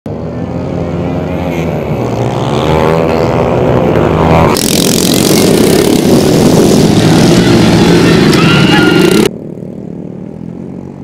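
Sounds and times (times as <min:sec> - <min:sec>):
dirt bike engines revving: 0:00.1 - 0:11.0
motor scooters running flat out: 0:00.2 - 0:11.0.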